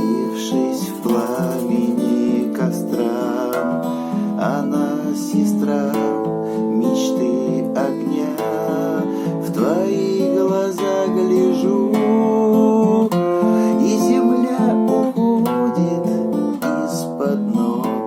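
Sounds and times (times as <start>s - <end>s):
acoustic guitar strumming: 0.0s - 18.0s
melodic line with sliding notes: 0.0s - 18.0s.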